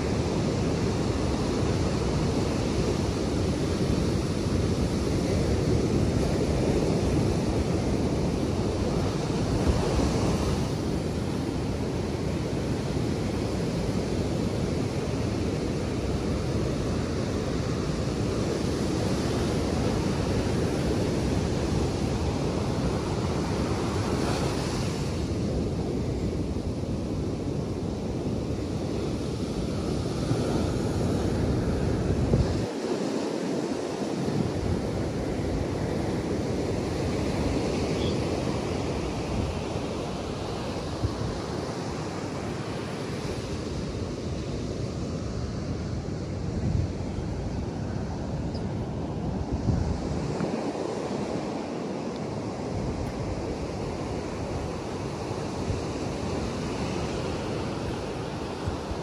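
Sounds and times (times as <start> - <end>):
surf breaking on a beach: 0.0 - 59.0
wind buffeting the microphone: 0.0 - 59.0.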